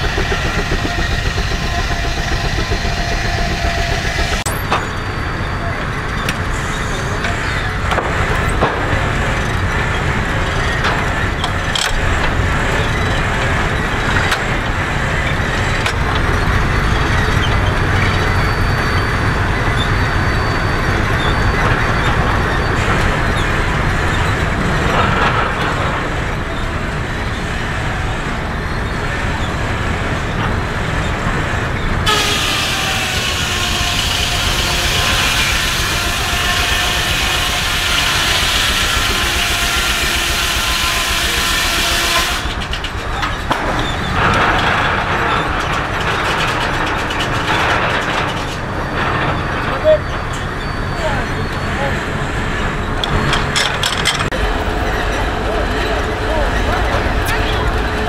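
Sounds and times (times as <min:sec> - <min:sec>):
steam sawmill mechanical din: 0:00.0 - 0:58.0.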